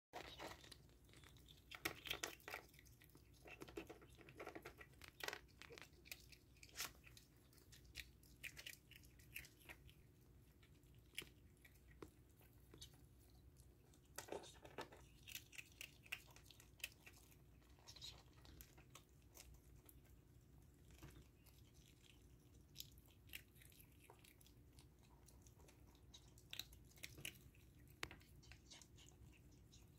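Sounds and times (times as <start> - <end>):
ferret crunching dry kibble: 0.1 - 29.9.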